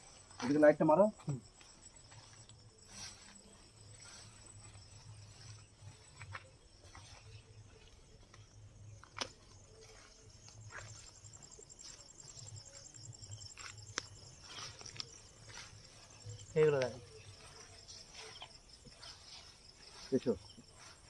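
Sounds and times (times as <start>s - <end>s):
footsteps through grass and brush: 0.0s - 21.0s
insects trilling: 0.0s - 21.0s.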